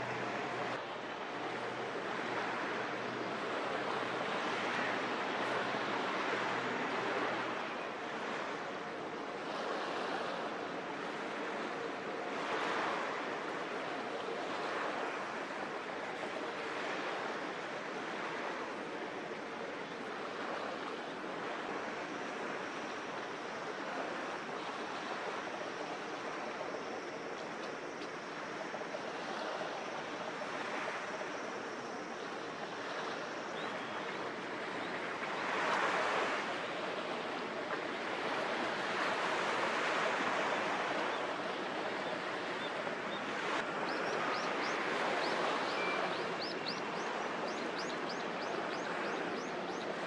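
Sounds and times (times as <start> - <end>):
water lapping: 0.0 - 50.0
wind: 0.0 - 50.0.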